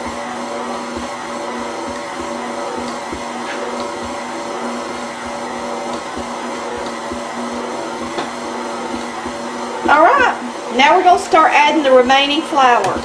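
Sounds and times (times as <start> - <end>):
stand mixer motor humming: 0.0 - 13.0.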